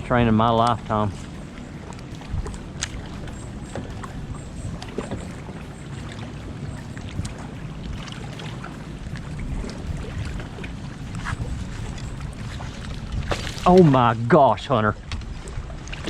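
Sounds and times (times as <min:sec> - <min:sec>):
light water sounds: 0:00.0 - 0:16.0
wind rumble on microphone: 0:00.0 - 0:16.0.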